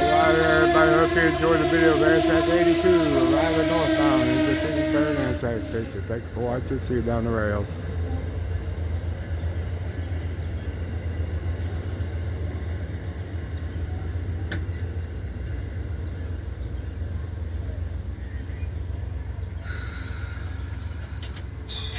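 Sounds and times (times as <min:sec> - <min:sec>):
diesel locomotive droning: 0:00.0 - 0:21.9.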